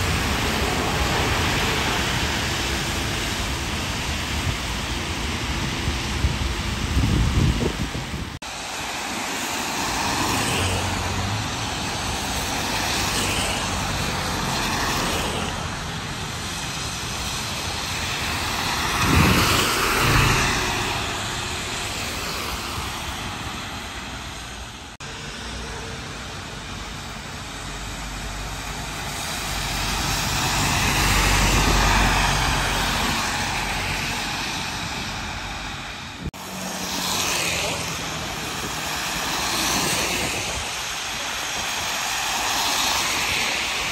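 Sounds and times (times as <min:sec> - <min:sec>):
traffic passing on wet road: 0:00.0 - 0:43.9
tyres hissing on wet surface: 0:08.4 - 0:43.9.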